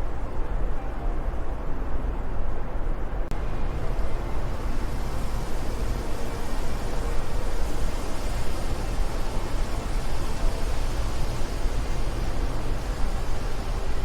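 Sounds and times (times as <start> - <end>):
steady wind blowing: 0.0 - 14.0.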